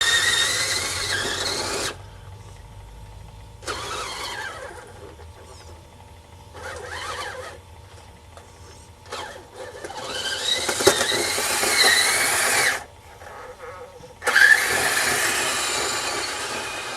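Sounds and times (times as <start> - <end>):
electric motor and gears whining: 0.0 - 16.9.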